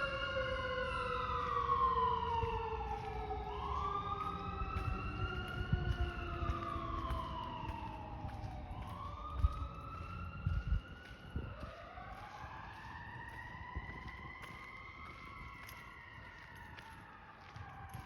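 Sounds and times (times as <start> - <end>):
emergency sirens wailing: 0.0 - 18.0.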